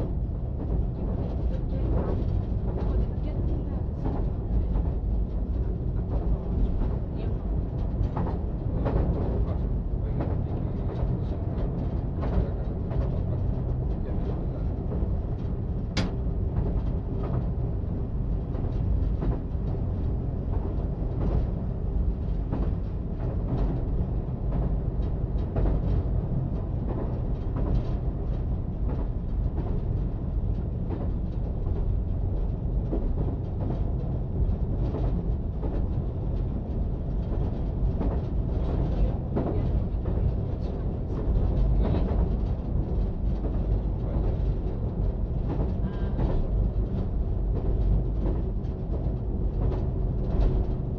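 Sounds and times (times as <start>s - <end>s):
train rumbling on track: 0.0s - 50.9s.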